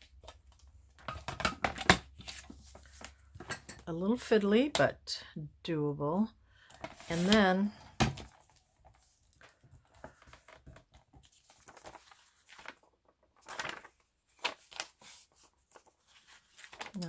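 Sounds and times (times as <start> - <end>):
book pages rustling: 0.0 - 3.4, 6.7 - 17.0.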